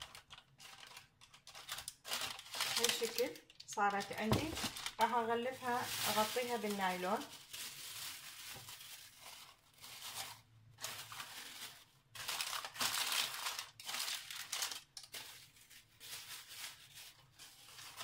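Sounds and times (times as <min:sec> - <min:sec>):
plastic sheet crinkling: 0:00.0 - 0:18.0.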